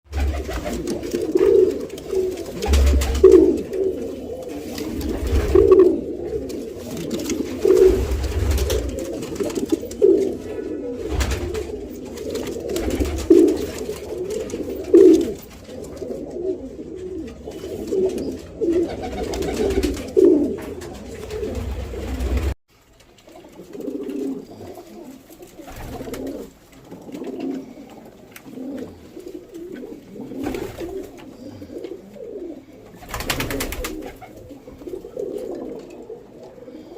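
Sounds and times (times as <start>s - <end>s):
pigeons cooing: 0.1s - 22.6s, 23.2s - 36.9s.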